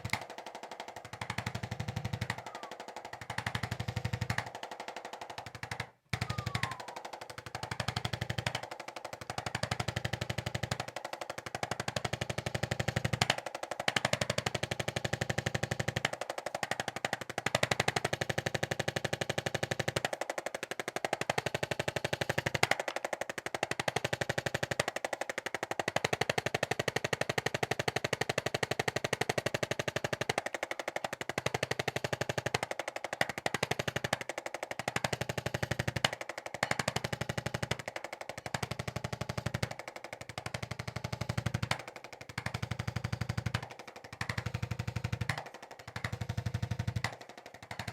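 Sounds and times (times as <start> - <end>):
adjusting instrument tapping rapidly: 0.0 - 47.9.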